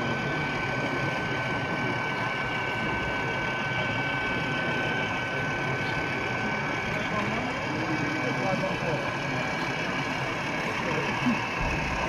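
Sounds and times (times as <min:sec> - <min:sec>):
model trains running with whine: 0:00.0 - 0:12.0.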